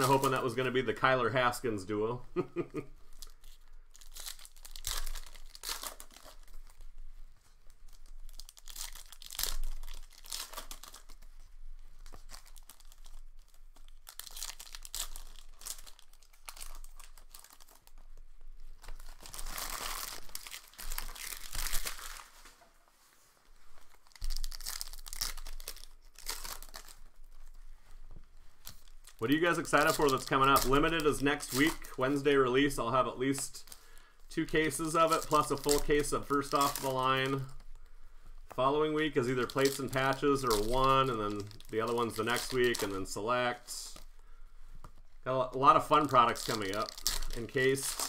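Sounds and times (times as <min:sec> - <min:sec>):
card pack wrappers crinkling and tearing: 0:00.0 - 0:22.6, 0:23.6 - 0:48.0.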